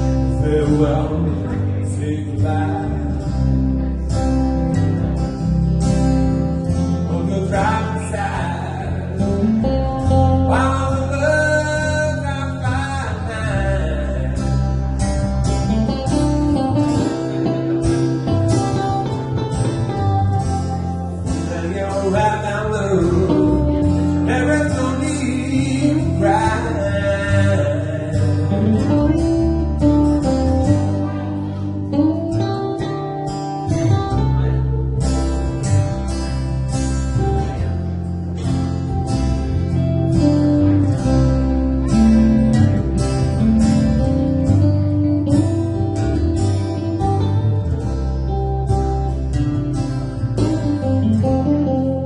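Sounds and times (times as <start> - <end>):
steady bass line: 0.0 - 52.0
strummed acoustic guitar: 0.0 - 52.0.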